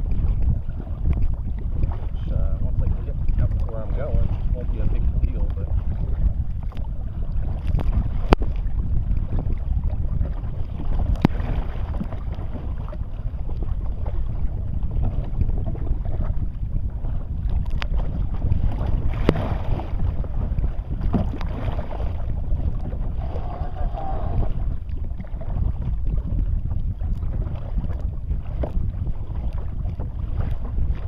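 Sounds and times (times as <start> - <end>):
water around kayak: 0.0 - 31.0
wind buffeting microphone: 0.0 - 31.0.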